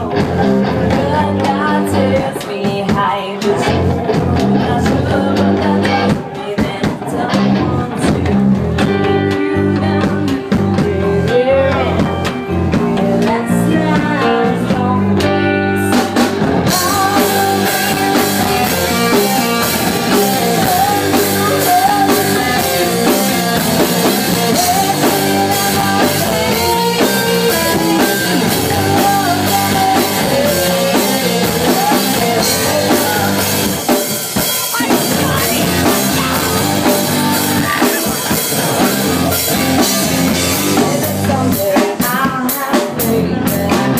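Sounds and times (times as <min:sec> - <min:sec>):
bass guitar: 0:00.0 - 0:43.9
drum kit: 0:00.0 - 0:43.9
electric guitar: 0:00.0 - 0:43.9
person singing into a microphone: 0:00.0 - 0:43.9.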